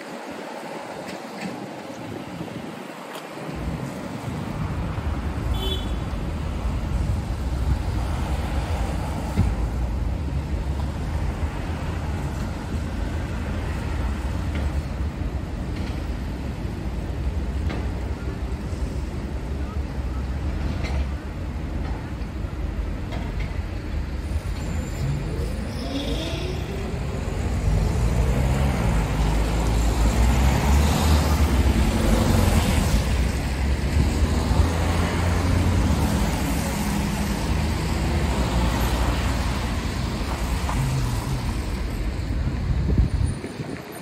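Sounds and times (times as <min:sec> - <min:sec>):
cars passing on wet road: 0:00.0 - 0:19.6, 0:23.6 - 0:44.0.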